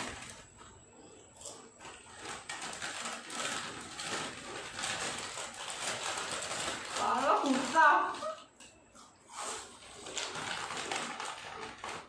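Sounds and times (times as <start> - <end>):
potato chips crunching: 1.3 - 12.0.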